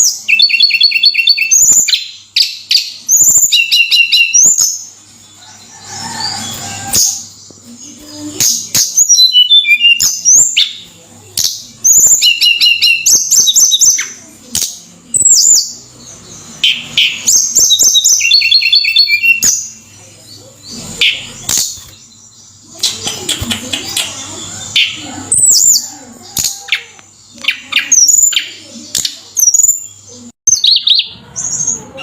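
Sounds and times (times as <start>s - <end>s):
songbird singing: 0.0s - 32.0s.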